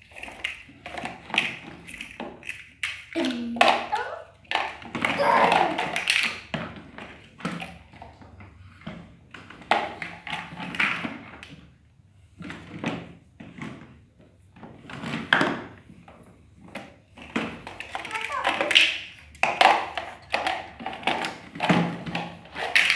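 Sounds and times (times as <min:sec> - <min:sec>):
plastic blocks clattering on tiles: 0:00.0 - 0:22.9.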